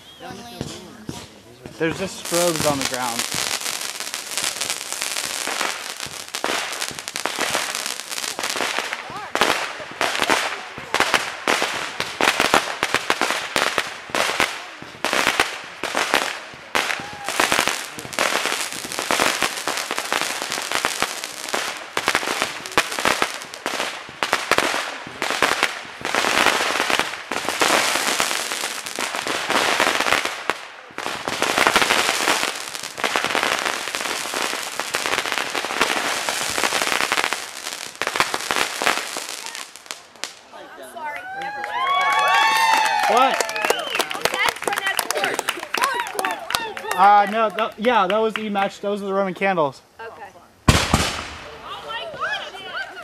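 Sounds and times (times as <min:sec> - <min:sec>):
fireworks popping and banging: 0:00.0 - 0:40.6, 0:41.2 - 0:49.1, 0:50.6 - 0:52.8
fireworks crackling hiss: 0:00.0 - 0:53.0.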